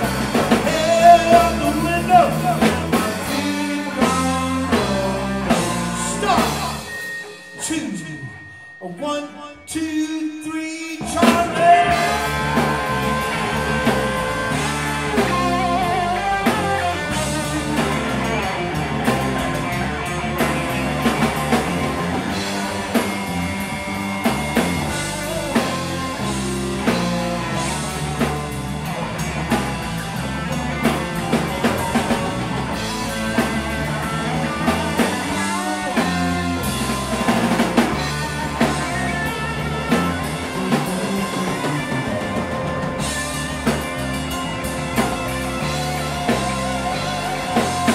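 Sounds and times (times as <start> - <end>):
drum kit steady beat: 0.0 - 8.1, 11.0 - 47.9
bass guitar: 0.0 - 8.3, 11.0 - 47.9
electric guitars: 0.0 - 8.8, 11.0 - 47.9.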